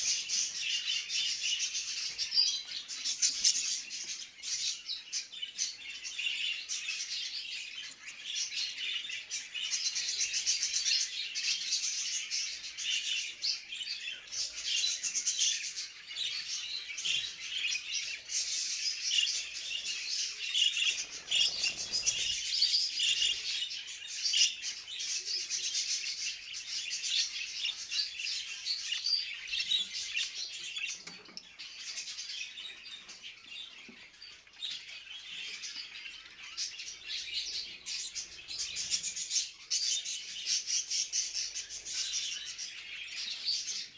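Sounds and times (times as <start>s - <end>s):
budgerigars chattering and warbling: 0.0s - 43.9s.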